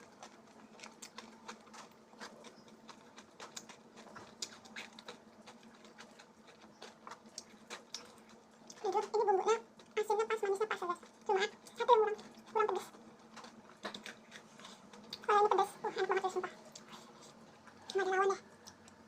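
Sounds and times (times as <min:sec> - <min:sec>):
wet chewing clicks and smacks: 0:00.0 - 0:19.0.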